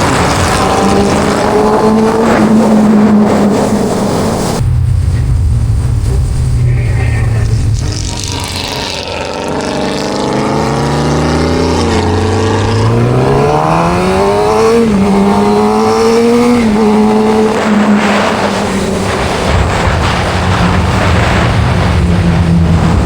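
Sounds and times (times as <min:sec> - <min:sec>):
motorcycle engine accelerating: 0:00.0 - 0:23.0
wind and road rush: 0:00.0 - 0:23.0.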